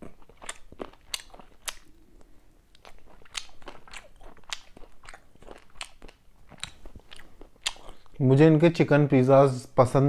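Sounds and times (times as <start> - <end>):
person chewing chicken wing: 0.0 - 8.2.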